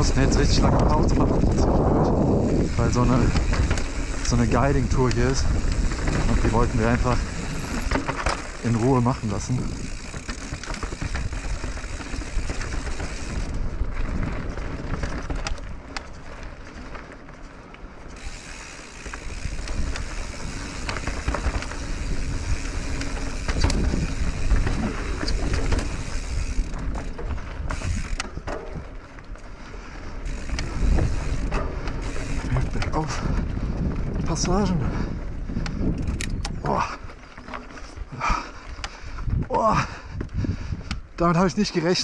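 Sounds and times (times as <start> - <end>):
bike rattling and knocking: 0.0 - 42.0
bike tyres on dirt: 0.0 - 42.0.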